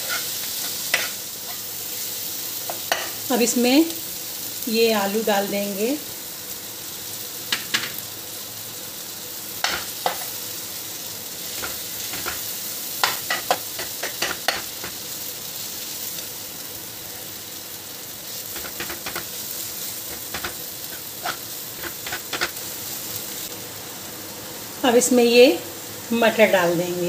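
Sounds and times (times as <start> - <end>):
frying hiss: 0.0 - 27.0.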